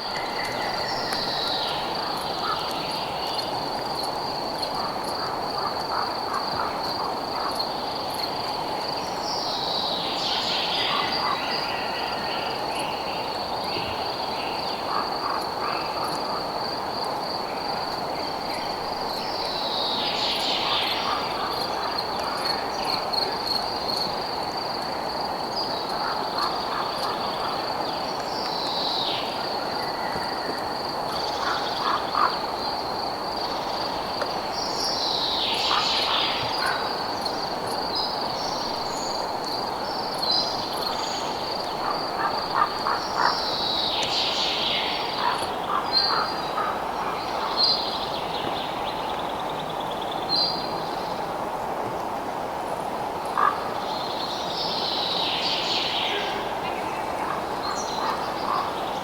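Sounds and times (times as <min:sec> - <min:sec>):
frogs croaking: 0:00.0 - 0:51.3, 0:53.2 - 0:59.0.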